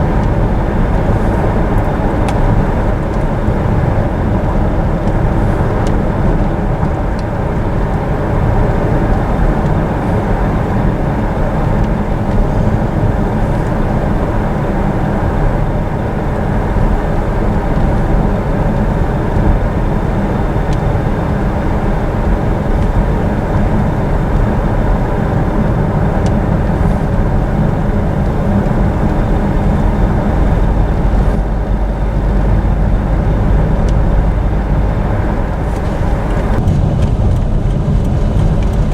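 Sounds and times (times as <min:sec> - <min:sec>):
road and engine noise in a car: 0:00.0 - 0:38.9.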